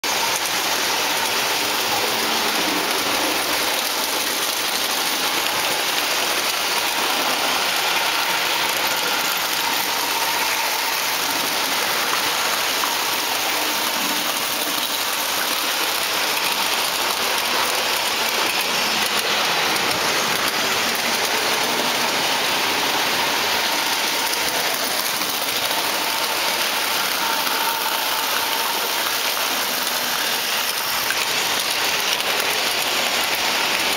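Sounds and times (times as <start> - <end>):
model train wheels on track: 0.0 - 33.9.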